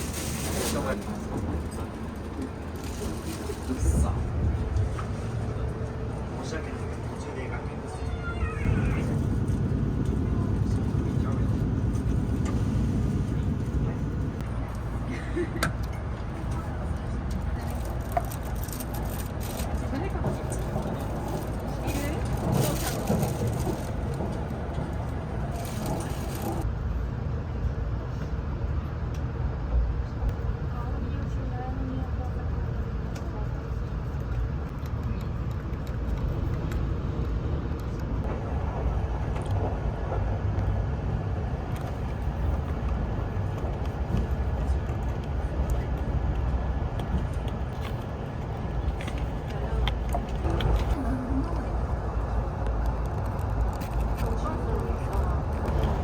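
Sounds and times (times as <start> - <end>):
train rumble inside cabin: 0.0 - 56.0.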